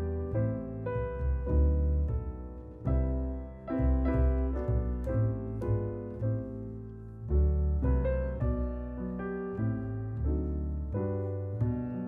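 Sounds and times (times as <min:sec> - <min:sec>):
piano chords over bass notes: 0:00.0 - 0:12.0.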